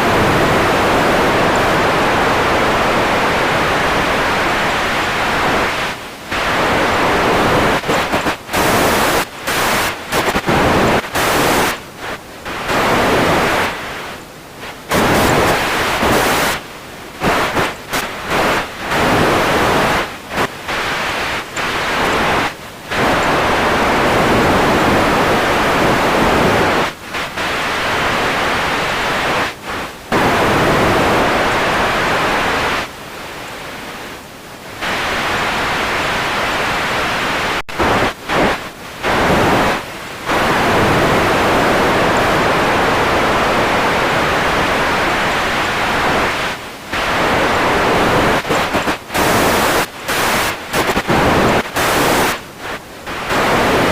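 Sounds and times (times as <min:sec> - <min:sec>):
radio static hiss: 0:00.0 - 0:53.9.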